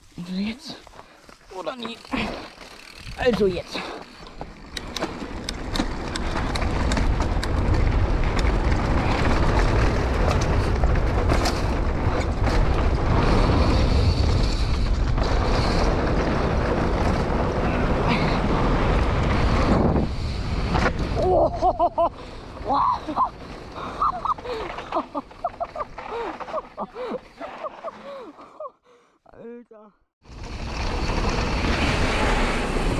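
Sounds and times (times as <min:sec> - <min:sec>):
bike tyres on dirt: 0:00.0 - 0:28.5, 0:30.2 - 0:32.9
bike clicks and rattles: 0:00.9 - 0:28.4.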